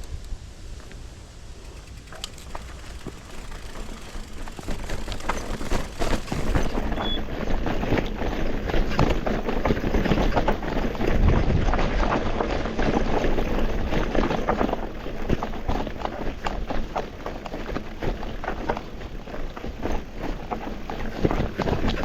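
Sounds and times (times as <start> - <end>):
wind rumble on microphone: 0.0 - 22.0
bike rattling over rocks: 0.6 - 22.0.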